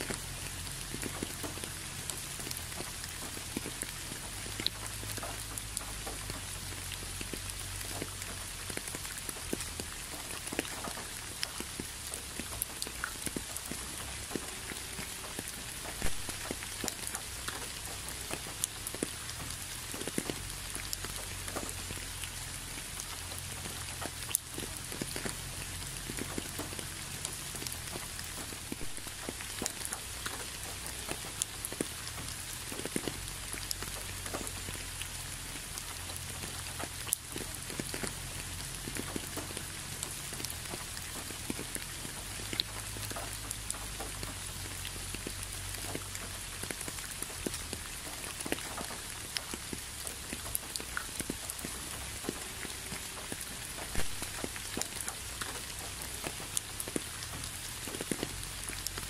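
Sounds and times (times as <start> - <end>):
raindrops tapping close by: 0.0 - 59.0
steady rain hiss: 0.0 - 59.0.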